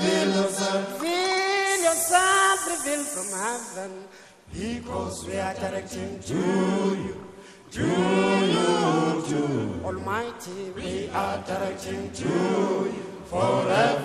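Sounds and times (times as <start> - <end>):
choir singing a chant: 0.0 - 14.0.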